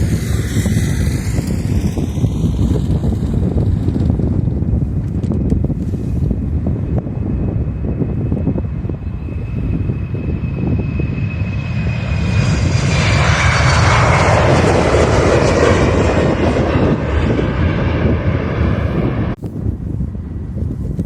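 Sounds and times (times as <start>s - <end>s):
airliner engine rumble and whine: 0.0s - 21.0s.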